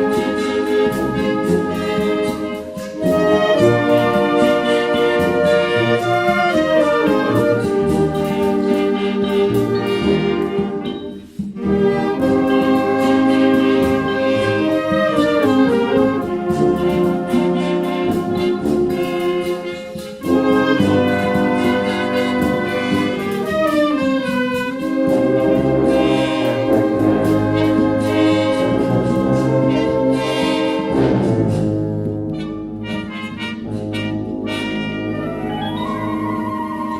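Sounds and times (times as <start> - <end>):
wind band playing: 0.0 - 36.9.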